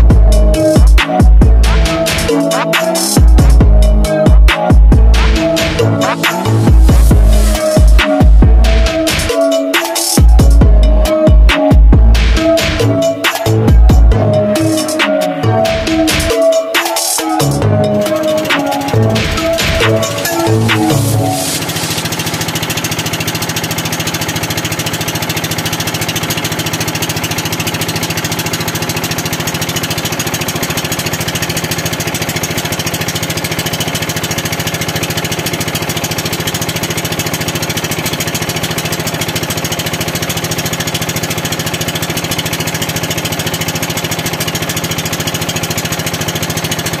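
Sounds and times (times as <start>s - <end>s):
small boat engine running: 0.0s - 47.0s.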